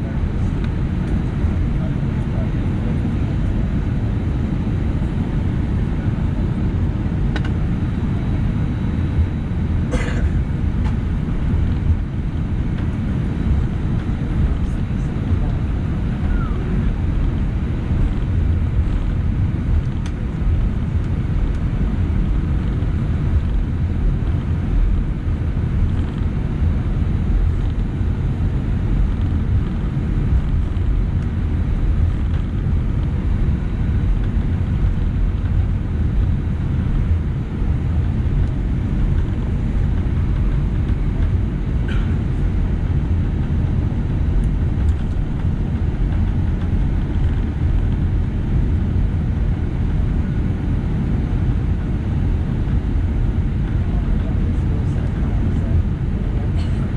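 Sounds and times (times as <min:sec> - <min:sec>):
aircraft cabin engine rumble: 0:00.0 - 0:56.9.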